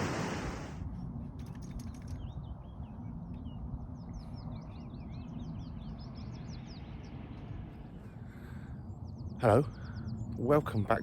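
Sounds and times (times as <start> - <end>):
wind rumble on microphone: 0.0 - 11.0
songbird chirping and trilling: 1.9 - 11.0.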